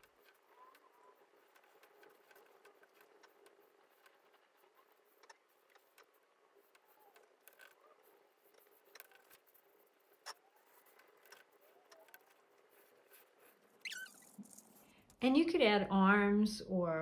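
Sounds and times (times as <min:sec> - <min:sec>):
pencil scratching on paper: 0:00.0 - 0:14.6.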